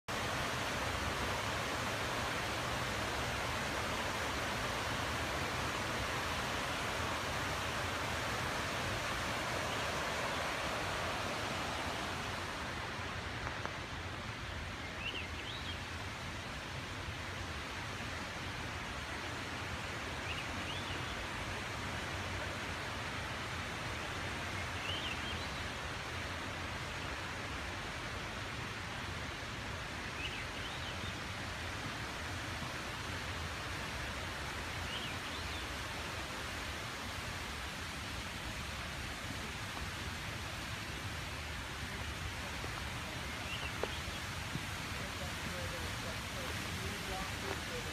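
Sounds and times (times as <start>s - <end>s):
forest rushing background noise: 0.1s - 47.9s.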